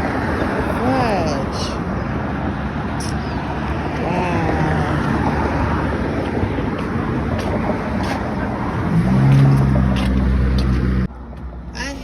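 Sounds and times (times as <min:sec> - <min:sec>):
road traffic: 0:00.0 - 0:12.0
vehicle engine humming: 0:00.0 - 0:12.0.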